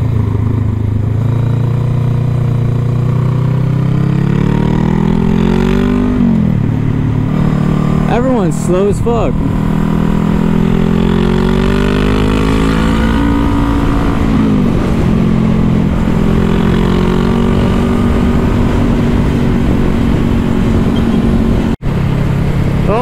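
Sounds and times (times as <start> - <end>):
low wind rumble: 0.0 - 23.0
motorcycle engine accelerating: 0.0 - 23.0.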